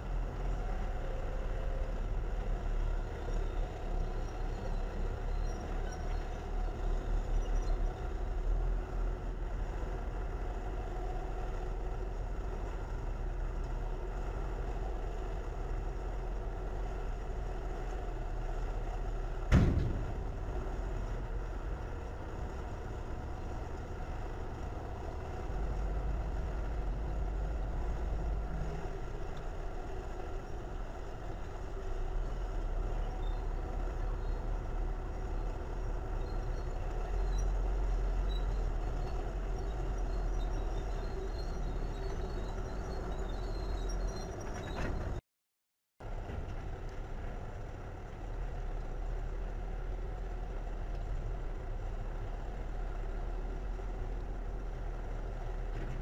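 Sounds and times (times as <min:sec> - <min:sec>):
diesel engine rumbling: 0:00.0 - 0:45.2, 0:46.0 - 0:56.0.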